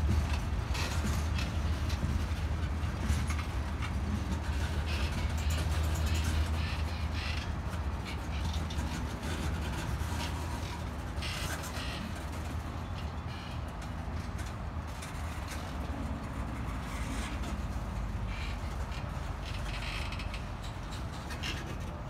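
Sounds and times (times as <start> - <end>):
train clanks and squeals: 0.0 - 22.0
train wheels rumbling on rail: 0.0 - 22.0.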